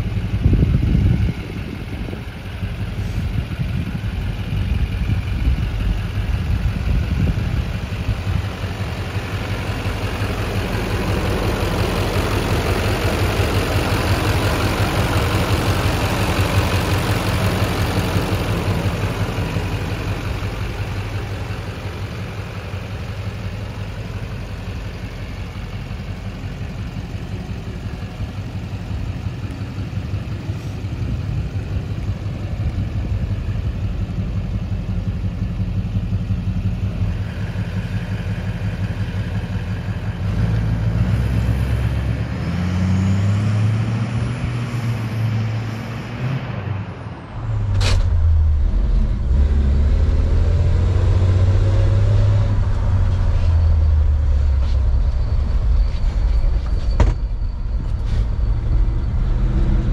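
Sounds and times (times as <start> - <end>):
diesel engine idling: 0.0 - 43.5, 46.6 - 59.9.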